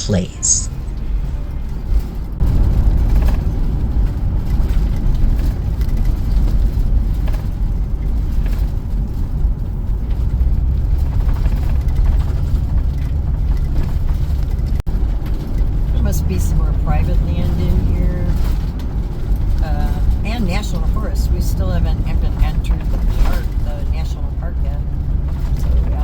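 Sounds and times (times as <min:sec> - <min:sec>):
car engine and tyre noise: 0:00.8 - 0:26.0.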